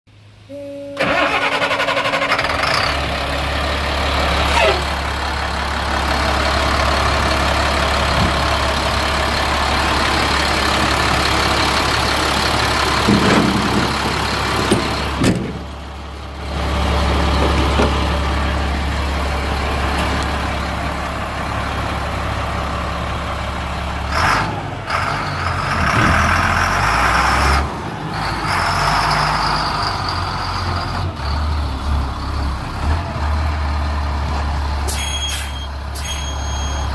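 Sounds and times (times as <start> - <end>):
diesel truck engine idling: 0.2 - 36.9.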